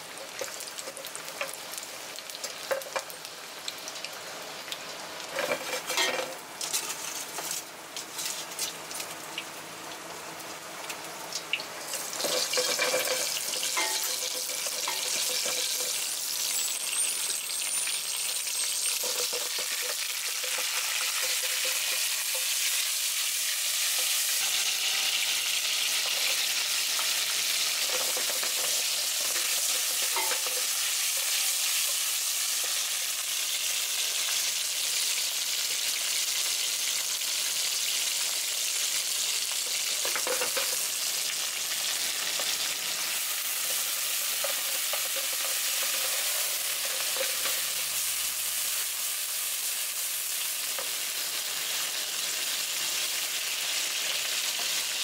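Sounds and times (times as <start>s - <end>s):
oil sizzling in a frying pan: 0.0s - 55.0s.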